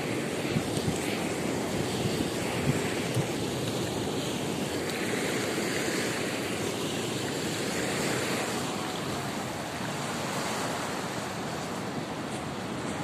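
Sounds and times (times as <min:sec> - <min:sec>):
ocean surf: 0:00.0 - 0:13.0
water washing over rocky reef: 0:00.0 - 0:13.0.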